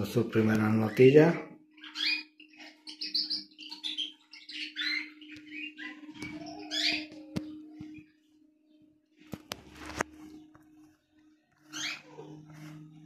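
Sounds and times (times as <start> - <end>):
finch chirping and warbling: 0.0 - 13.0.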